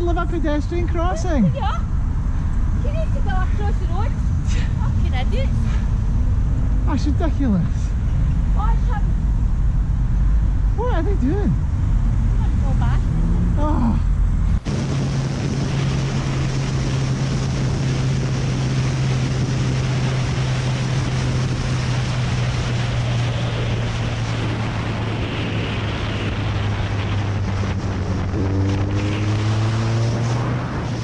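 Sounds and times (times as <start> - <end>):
motorcycle engine drone: 0.0 - 31.0
rising engine tone: 1.0 - 31.0
wind rush on helmet microphone: 1.2 - 31.0.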